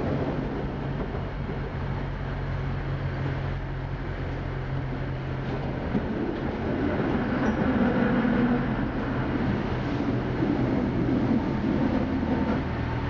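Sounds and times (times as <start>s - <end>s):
tram hum and rumble: 0.0s - 13.0s.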